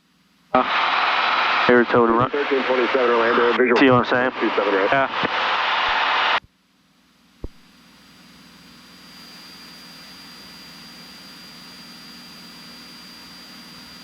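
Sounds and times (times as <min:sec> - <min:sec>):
thin high whine: 0:00.5 - 0:06.5, 0:07.4 - 0:14.0
airplane engine and propeller drone: 0:00.6 - 0:06.4, 0:07.4 - 0:14.0.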